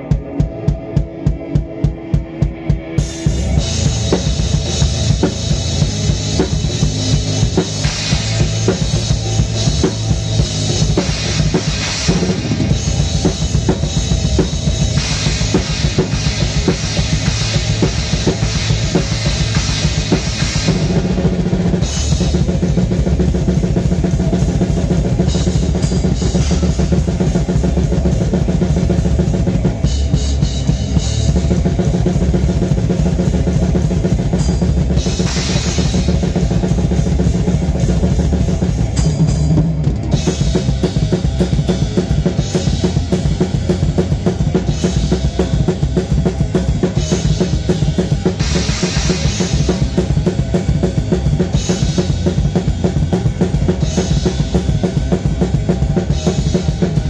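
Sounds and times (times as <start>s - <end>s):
drum kit played fast and hard: 0.0s - 57.0s
electric guitars: 0.0s - 57.0s.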